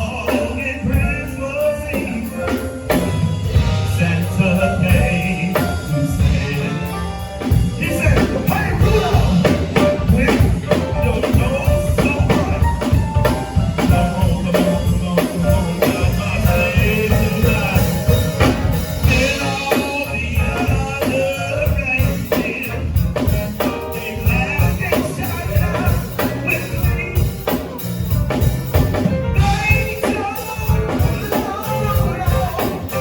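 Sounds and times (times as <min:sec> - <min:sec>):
band music: 0:00.0 - 0:33.0
drum kit steady beat: 0:00.0 - 0:33.0.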